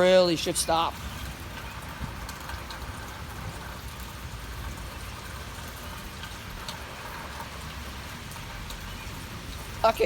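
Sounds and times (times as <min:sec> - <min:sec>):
hailstones ticking on hard surfaces: 0:00.0 - 0:10.0.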